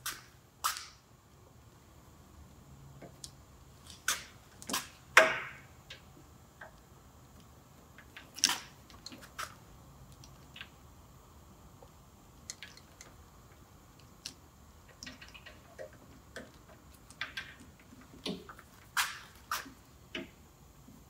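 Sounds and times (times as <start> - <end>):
sharp clicks and handling noises: 2.5 - 10.8, 11.8 - 20.4.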